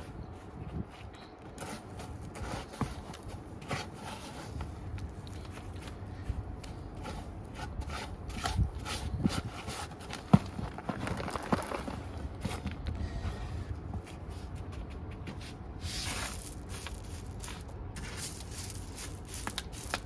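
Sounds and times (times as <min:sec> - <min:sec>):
hands scraping and rubbing plants: 0:00.0 - 0:20.0.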